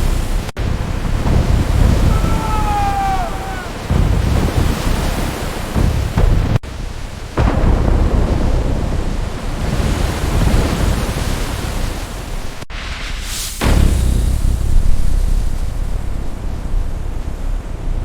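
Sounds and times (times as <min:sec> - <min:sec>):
heavy rain: 0:00.0 - 0:18.0
thunder rumbling: 0:00.0 - 0:18.0
wind: 0:00.0 - 0:18.0.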